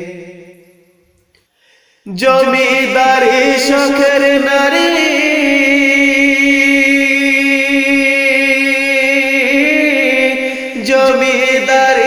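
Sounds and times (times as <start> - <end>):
person singing long notes: 2.1 - 12.0.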